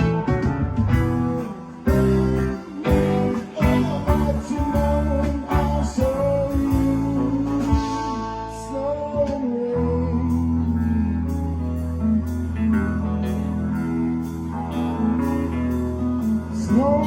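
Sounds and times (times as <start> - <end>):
guitar with bending notes: 0.0 - 17.0
sustained bass: 0.0 - 17.0.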